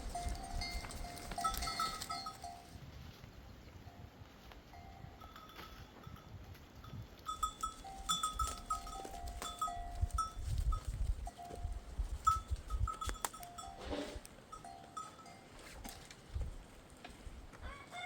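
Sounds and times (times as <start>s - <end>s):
sheep bells clinking: 0.0s - 2.9s, 3.7s - 16.3s.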